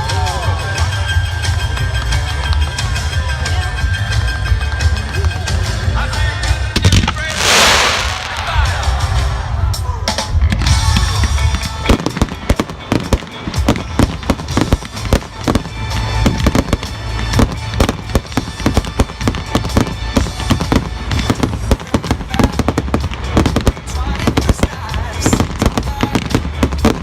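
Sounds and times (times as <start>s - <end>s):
music playing: 0.0s - 27.0s
fireworks bangs and crackles: 0.1s - 27.0s.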